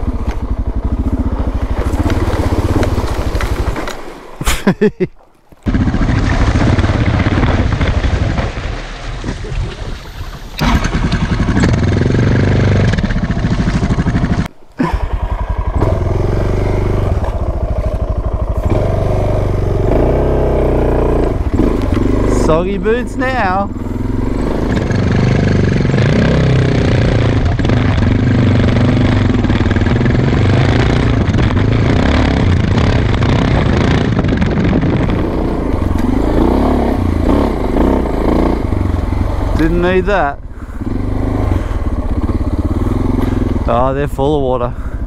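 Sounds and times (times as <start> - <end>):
motorcycle engine running: 0.0 - 4.1, 5.6 - 8.8, 10.6 - 45.0.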